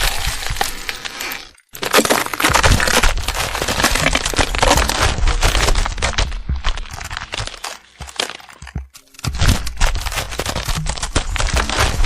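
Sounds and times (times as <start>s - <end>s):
crackles and snaps: 0.0s - 12.0s.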